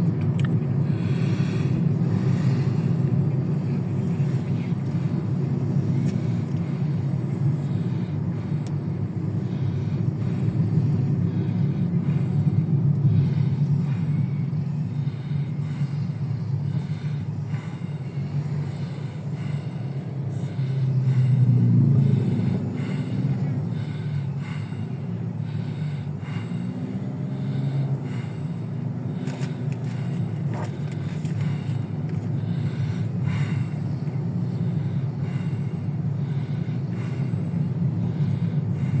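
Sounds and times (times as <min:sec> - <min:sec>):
car engine and tyres rumbling: 0:00.0 - 0:39.0
passing vehicles and motorcycles: 0:00.0 - 0:39.0.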